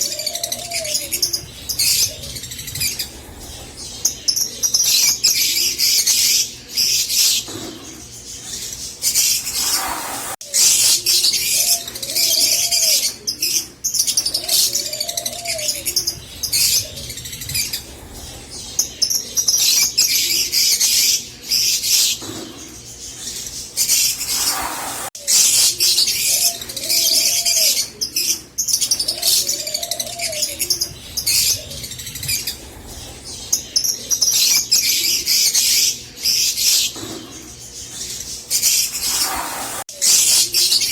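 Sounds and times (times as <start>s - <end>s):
lovebirds chattering: 0.0s - 40.9s.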